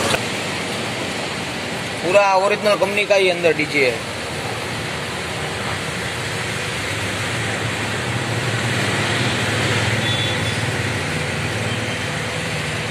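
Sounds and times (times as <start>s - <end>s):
engine-like drone with low hum: 0.0s - 12.9s.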